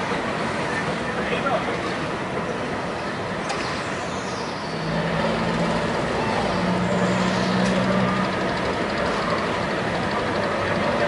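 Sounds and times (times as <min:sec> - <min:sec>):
constant noisy rush: 0:00.0 - 0:11.0
engine humming: 0:01.8 - 0:11.0.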